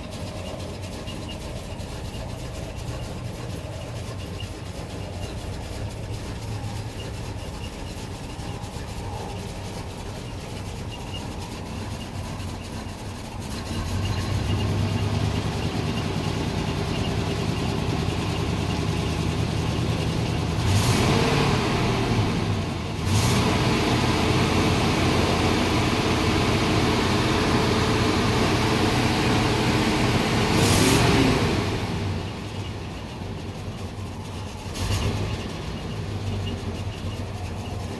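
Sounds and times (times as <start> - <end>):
engine running and revving: 0.0 - 37.9.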